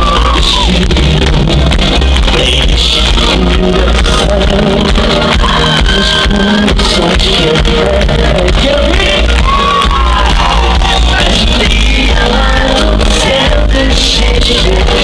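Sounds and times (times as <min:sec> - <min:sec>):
man singing into a microphone: 0:00.0 - 0:09.9, 0:11.1 - 0:15.0
live pop band playing: 0:00.0 - 0:15.0.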